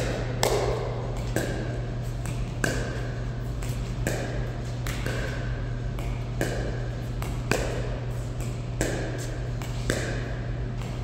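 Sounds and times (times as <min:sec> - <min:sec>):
paddles hitting plastic ball: 0:00.0 - 0:11.0
steady low hum: 0:00.0 - 0:11.0.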